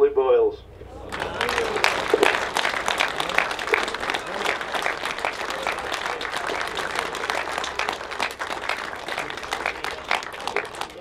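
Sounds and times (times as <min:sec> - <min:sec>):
crowd applauding: 0:00.8 - 0:11.0.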